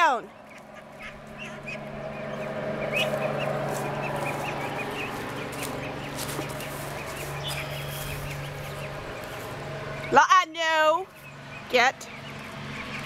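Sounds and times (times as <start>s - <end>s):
ducklings peeping: 0.0s - 13.0s
steady low hum: 0.3s - 13.0s.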